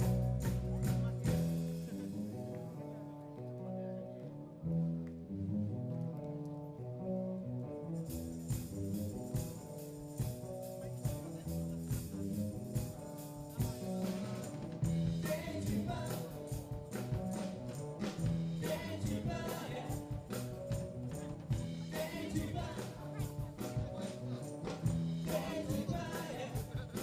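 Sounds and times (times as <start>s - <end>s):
live band playing: 0.0s - 3.9s, 5.7s - 27.0s
bass line: 0.0s - 27.0s.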